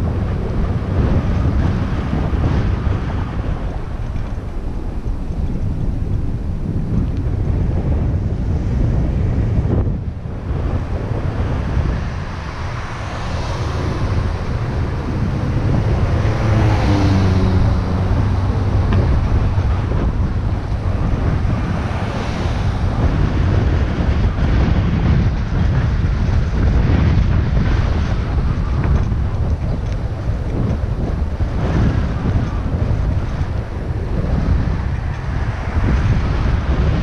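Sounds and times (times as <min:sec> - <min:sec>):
engine hum: 0:00.0 - 0:37.0
wind buffeting microphone: 0:00.0 - 0:37.0.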